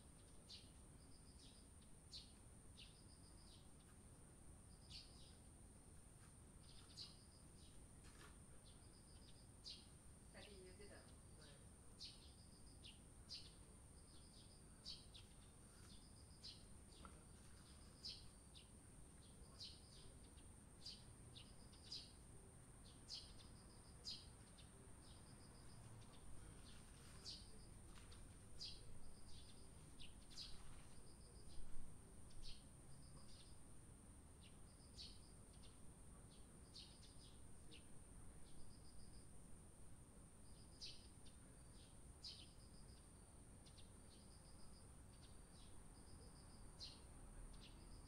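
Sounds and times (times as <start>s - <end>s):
sparrows chirping: 0.0s - 4.0s, 4.7s - 5.5s, 6.6s - 33.7s, 34.3s - 39.3s, 40.4s - 48.0s.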